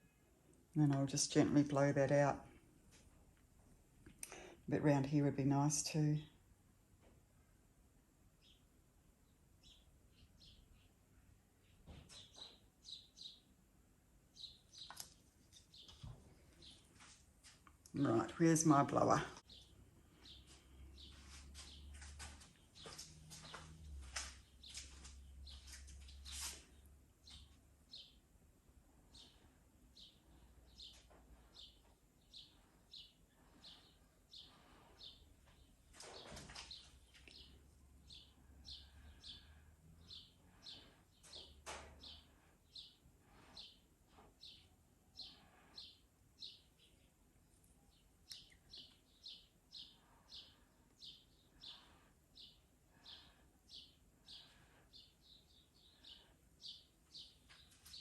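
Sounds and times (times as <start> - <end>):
bird chirping: 8.4 - 13.6, 14.3 - 17.1, 18.0 - 28.3, 29.1 - 47.2, 47.8 - 58.0.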